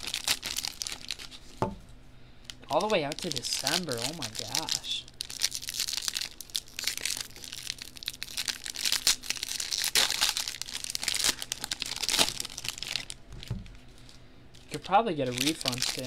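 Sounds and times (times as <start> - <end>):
foil wrapper crinkling and tearing: 0.0 - 1.6, 2.4 - 16.0.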